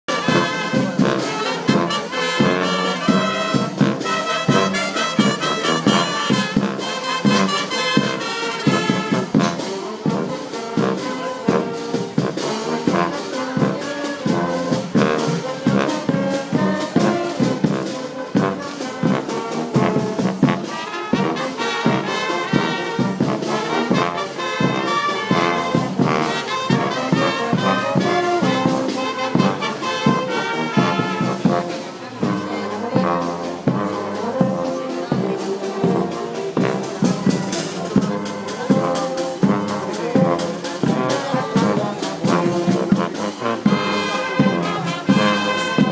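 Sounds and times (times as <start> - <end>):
brass band playing: 0.0 - 45.9
steady drum beat: 0.0 - 45.9.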